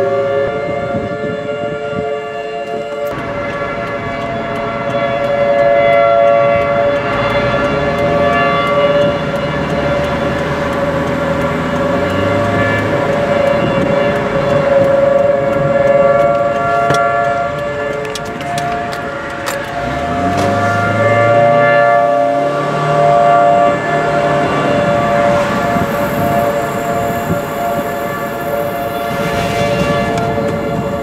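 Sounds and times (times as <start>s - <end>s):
car engine and road noise: 0.0s - 31.0s
warning sirens wailing: 0.0s - 31.0s.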